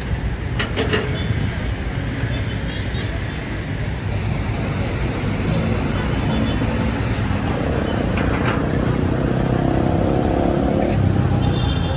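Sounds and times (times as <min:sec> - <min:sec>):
engines rumbling: 0:00.0 - 0:11.9.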